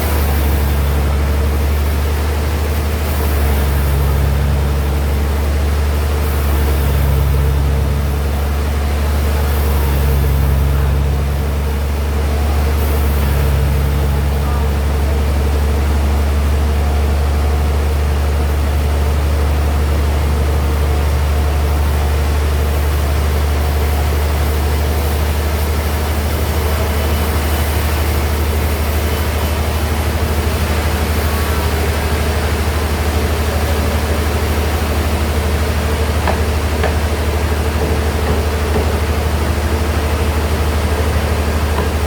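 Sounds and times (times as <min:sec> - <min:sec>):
bandsaw machinery humming: 0:00.0 - 0:42.0.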